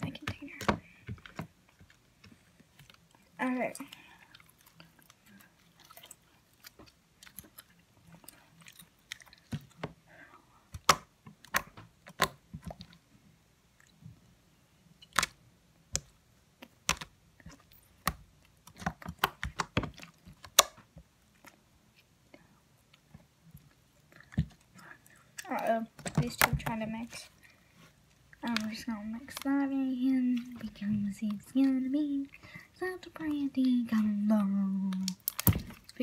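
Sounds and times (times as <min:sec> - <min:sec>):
slime squishing: 0:00.0 - 0:36.0.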